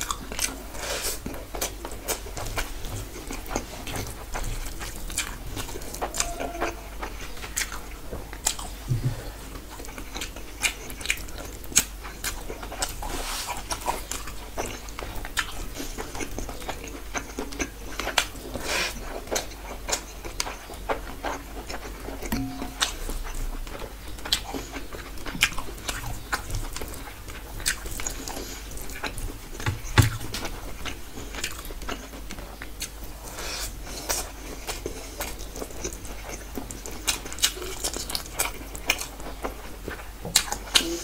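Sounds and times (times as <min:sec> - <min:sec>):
person chewing with wet mouth clicks: 0:01.2 - 0:41.0.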